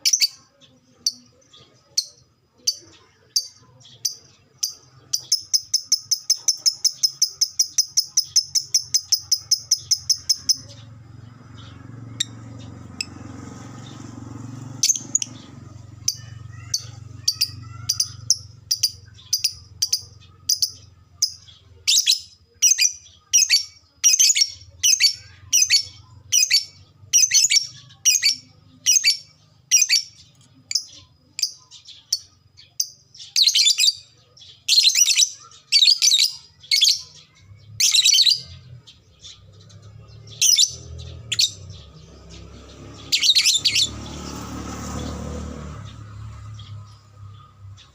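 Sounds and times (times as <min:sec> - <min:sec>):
bird chattering trill: 0:00.0 - 0:44.0
sharp high bird chirps: 0:02.0 - 0:45.1.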